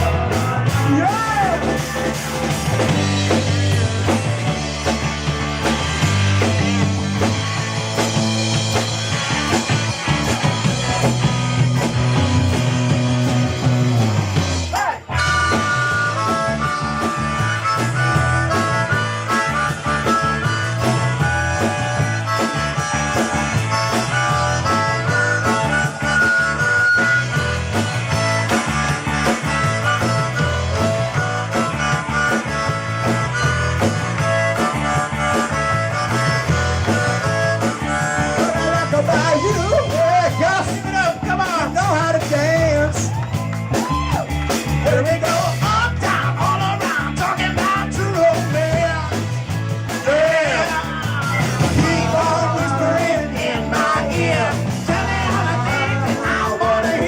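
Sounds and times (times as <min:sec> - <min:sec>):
harmonica lead: 0:00.0 - 0:57.0
live rock band playing: 0:00.0 - 0:57.0.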